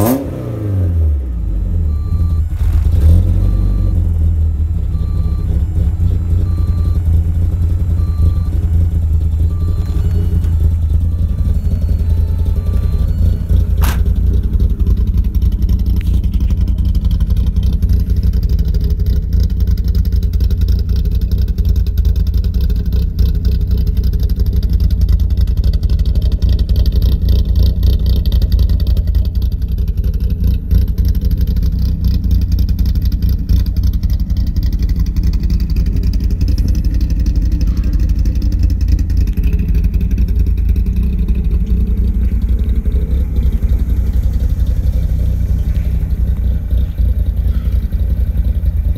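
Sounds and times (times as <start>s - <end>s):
car engine idling: 1.1s - 48.9s.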